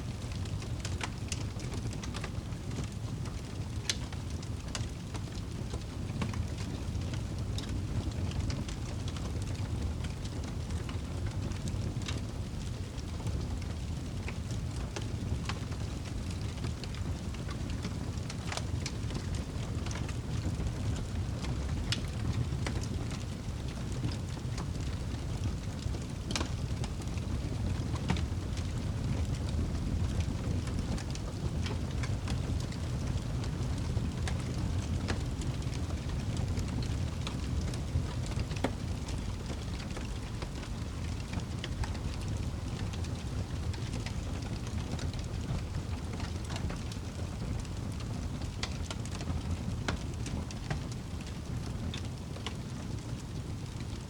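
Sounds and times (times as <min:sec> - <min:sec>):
low rumble of flame: 0:00.0 - 0:54.0
burning wood crackling and popping: 0:00.1 - 0:54.0.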